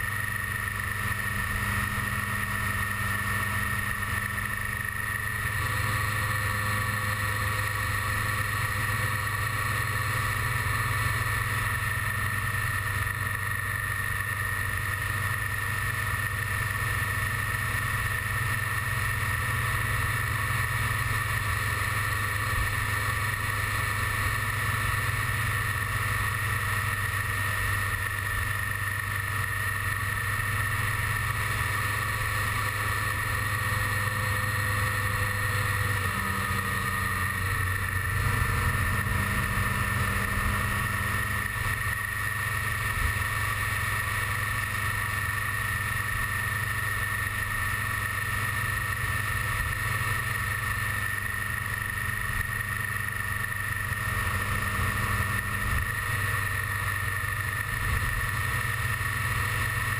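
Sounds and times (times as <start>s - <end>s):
motorcycle engine cruising: 0.0s - 59.9s
road noise: 0.0s - 59.9s.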